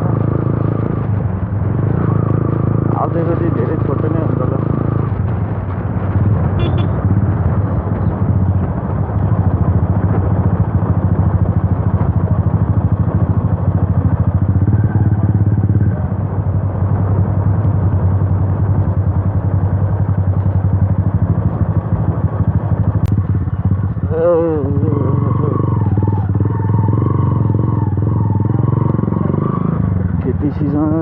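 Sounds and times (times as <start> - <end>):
loud motorcycle engine while riding: 0.0 - 31.0.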